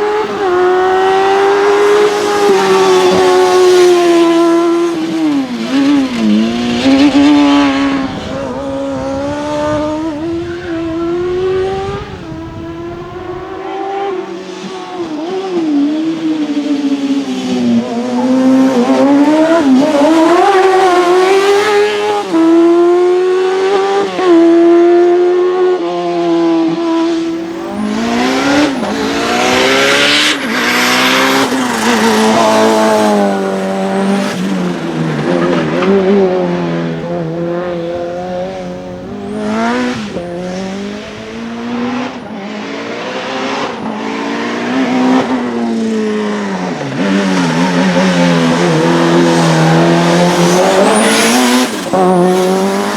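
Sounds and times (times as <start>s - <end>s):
race car engine revving: 0.0s - 52.9s.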